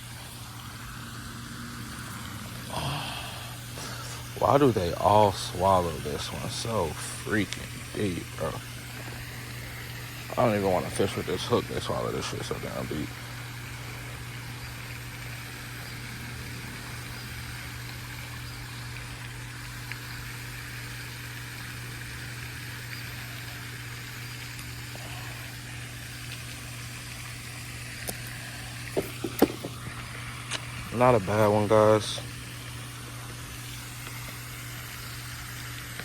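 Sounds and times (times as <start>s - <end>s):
faint outdoor hiss: 0.0s - 36.0s
steady low hum: 0.0s - 36.0s.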